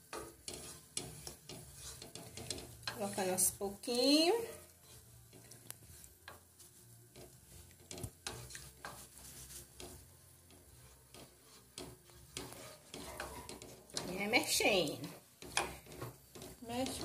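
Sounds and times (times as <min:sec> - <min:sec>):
spoon scraping metal pot: 0:00.0 - 0:06.5, 0:07.1 - 0:17.0.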